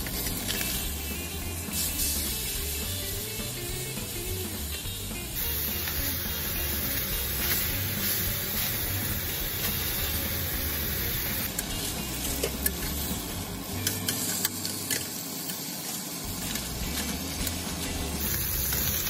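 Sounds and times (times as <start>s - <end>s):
chicken sizzling in a grill pan: 0.0s - 19.0s.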